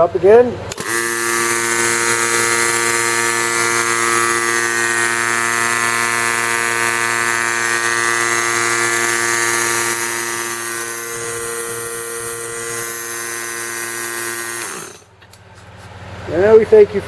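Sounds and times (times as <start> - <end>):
air compressor running: 0.7 - 15.2.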